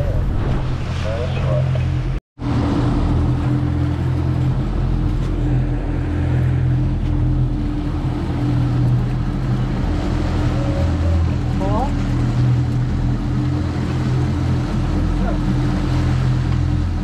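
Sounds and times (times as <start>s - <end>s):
outboard motors droning: 0.0s - 17.0s
rush of water from wake: 0.0s - 17.0s.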